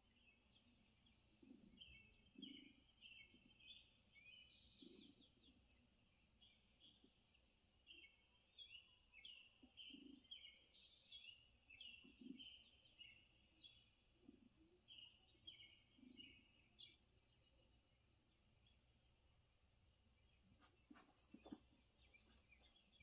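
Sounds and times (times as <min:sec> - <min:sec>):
faint songbird chirping: 0:00.0 - 0:23.0.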